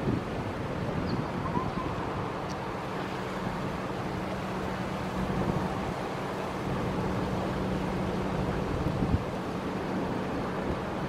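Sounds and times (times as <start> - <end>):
wind noise on microphone: 0.0 - 7.5, 8.2 - 11.0
ship machinery humming: 0.0 - 11.0.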